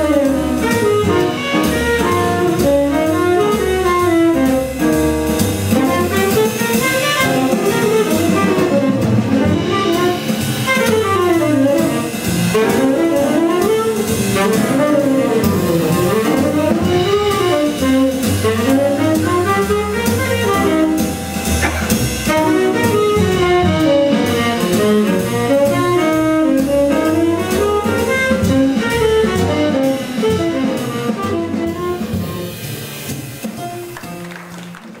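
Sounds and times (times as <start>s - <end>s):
jazz tenor saxophone solo: 0.0s - 34.1s
drum kit with cymbals: 0.0s - 35.0s
walking double bass: 0.0s - 35.0s.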